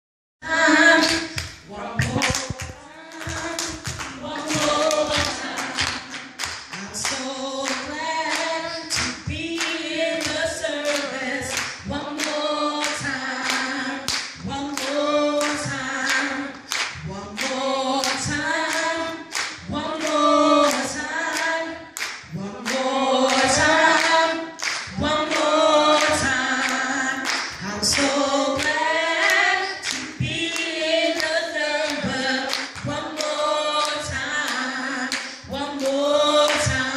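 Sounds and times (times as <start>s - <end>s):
woman singing gospel: 0.4s - 36.9s
hand claps: 1.0s - 36.9s.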